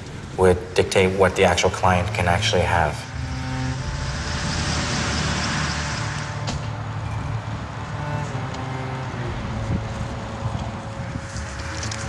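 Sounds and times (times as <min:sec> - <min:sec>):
large engine humming: 0:00.0 - 0:12.0.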